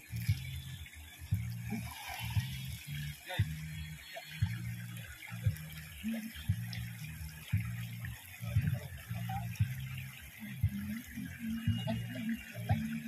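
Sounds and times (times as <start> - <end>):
low uneven rumble: 0.0 - 13.0
river water rushing and splashing: 0.0 - 13.0.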